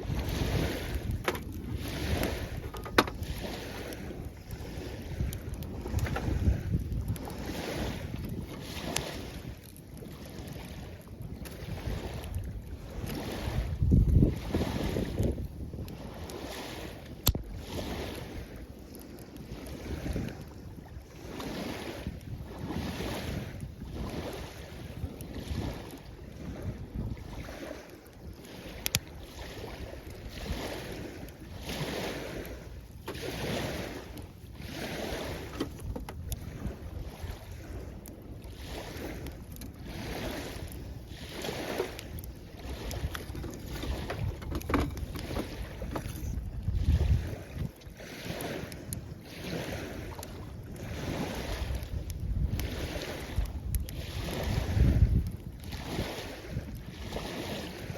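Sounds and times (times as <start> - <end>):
waves washing at shoreline: 0.0 - 57.9
wind on microphone: 0.0 - 57.9.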